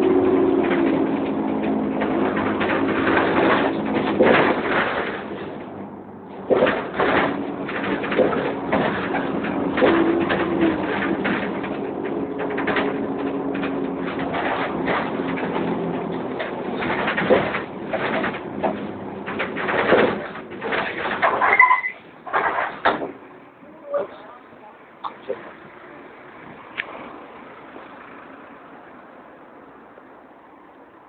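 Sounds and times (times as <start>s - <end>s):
bus body rattles: 0.0s - 31.0s
bus differential humming: 0.0s - 31.0s.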